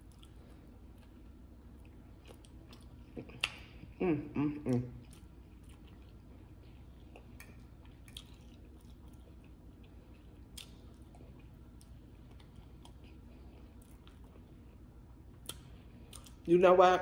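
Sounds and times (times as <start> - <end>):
chewing soft food: 0.0 - 16.5.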